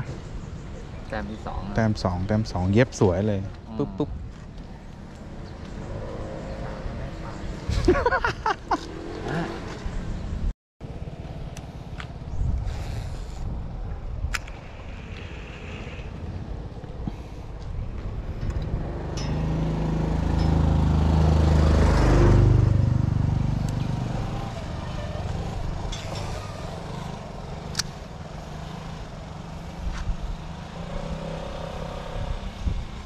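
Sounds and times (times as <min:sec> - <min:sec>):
engine passing by: 0:00.0 - 0:14.0, 0:14.6 - 0:33.0.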